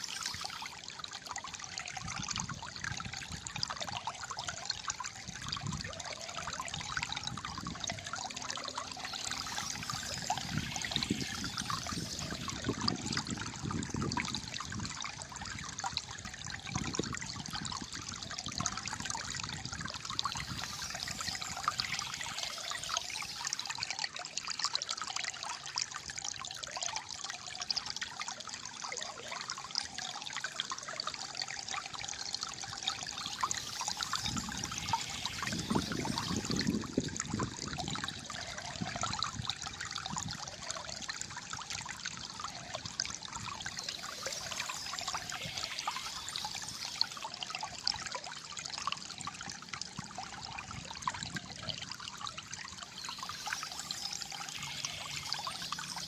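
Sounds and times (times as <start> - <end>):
water trickling over stones: 0.0 - 56.0.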